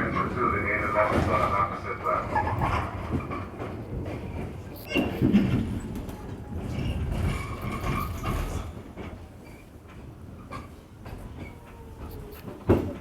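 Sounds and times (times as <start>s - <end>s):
subway car rumble and clatter: 0.0s - 13.0s.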